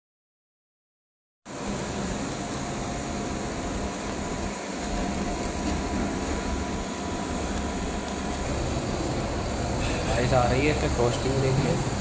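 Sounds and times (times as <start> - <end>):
air conditioner humming: 1.5 - 12.0.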